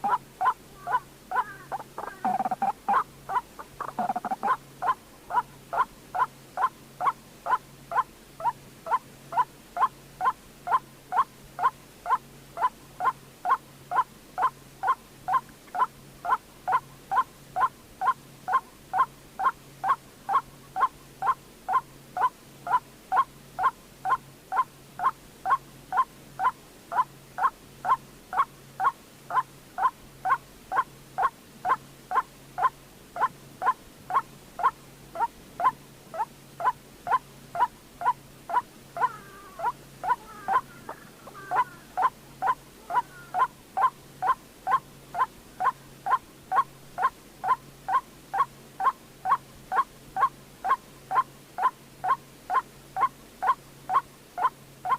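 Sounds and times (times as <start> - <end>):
tangled bird call: 0.0 - 54.9
waterhen repeated calls: 0.0 - 54.9.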